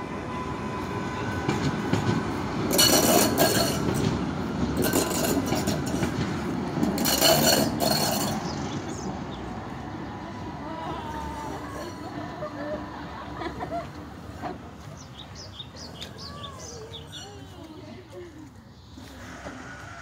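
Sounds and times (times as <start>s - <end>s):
tram wheels rumbling on rail: 0.0s - 17.6s.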